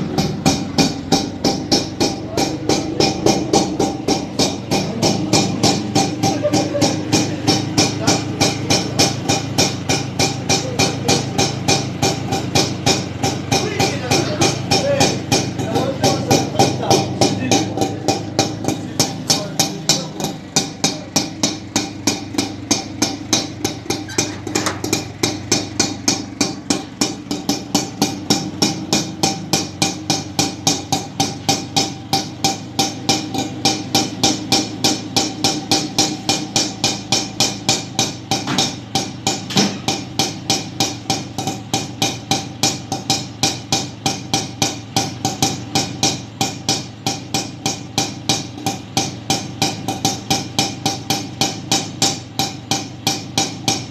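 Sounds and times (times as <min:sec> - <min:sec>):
auto-rickshaw engine idling: 0:00.0 - 0:53.9.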